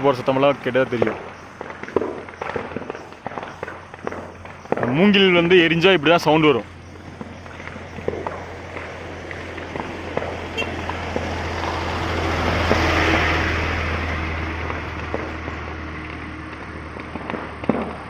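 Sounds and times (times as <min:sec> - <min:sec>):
burning bamboo popping: 0:00.0 - 0:18.0
car passing: 0:00.0 - 0:18.0.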